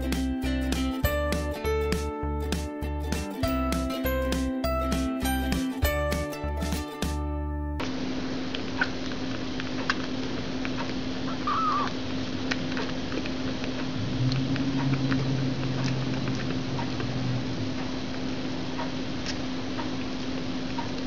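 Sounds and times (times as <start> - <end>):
low hum and hiss: 0.0 - 21.0.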